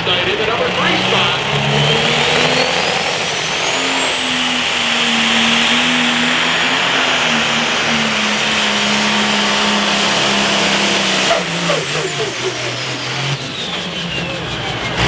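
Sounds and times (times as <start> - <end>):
diesel tractor engine under load: 0.0 - 15.0
high turbo whistle: 1.9 - 15.0.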